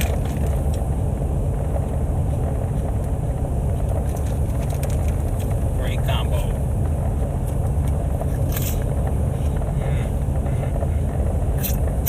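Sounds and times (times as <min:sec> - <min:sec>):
car cabin low rumble: 0:00.0 - 0:12.0.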